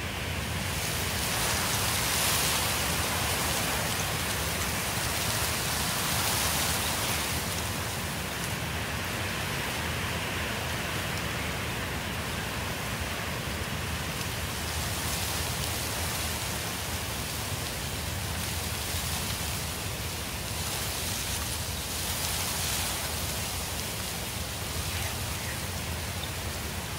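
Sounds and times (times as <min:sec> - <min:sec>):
wind rushing through leaves: 0:00.0 - 0:26.9.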